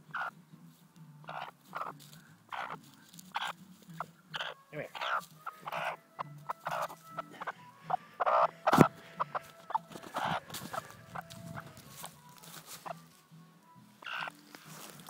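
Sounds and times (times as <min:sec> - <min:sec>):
hen raspy calls: 0:00.0 - 0:00.4, 0:01.2 - 0:13.2, 0:14.0 - 0:15.0.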